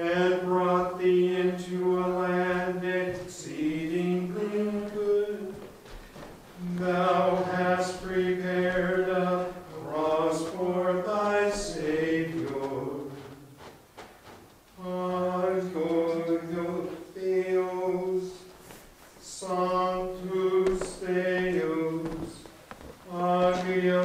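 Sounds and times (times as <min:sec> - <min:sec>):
person chanting: 0:00.0 - 0:05.7, 0:06.6 - 0:13.5, 0:14.8 - 0:18.5, 0:19.2 - 0:22.5, 0:23.1 - 0:24.0.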